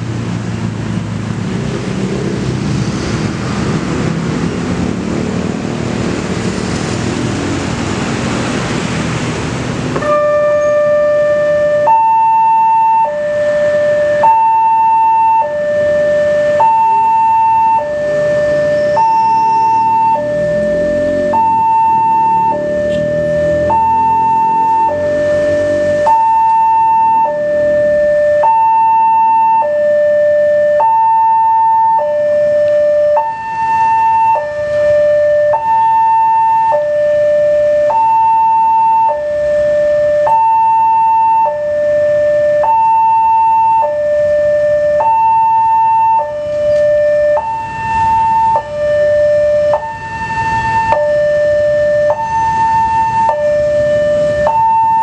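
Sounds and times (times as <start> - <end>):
road traffic and motorbikes: 0.0 - 55.0
two-tone crossing alarm: 9.9 - 55.0.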